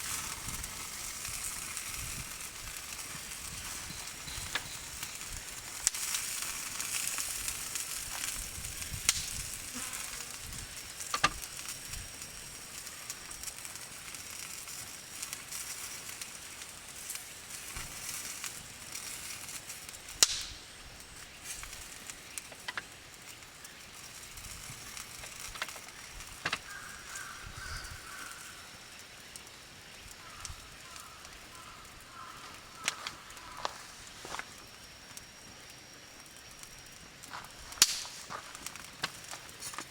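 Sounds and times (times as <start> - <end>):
campfire crackling pops: 0.0 - 39.9
chicken sizzling over fire: 0.0 - 39.9.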